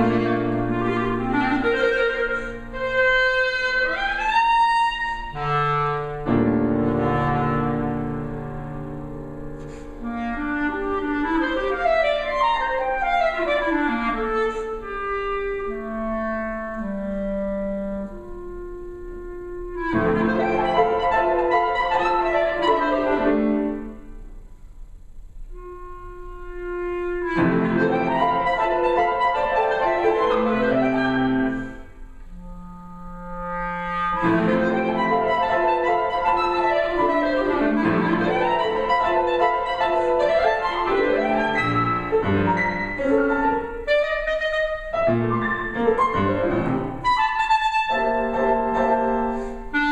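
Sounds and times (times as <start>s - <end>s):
clarinet lines: 0.0s - 24.1s, 25.5s - 49.9s
piano chords: 0.0s - 24.7s, 25.5s - 49.9s.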